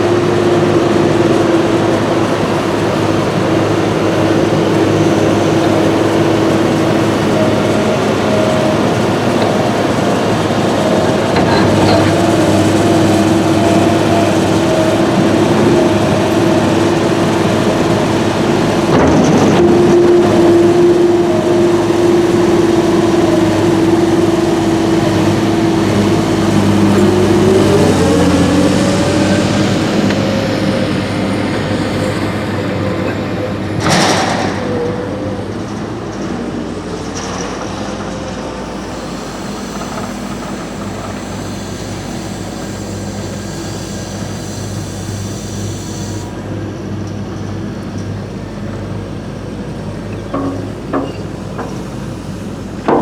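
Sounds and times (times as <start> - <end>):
diesel machinery running: 0.0 - 53.0
machinery whine: 0.0 - 53.0.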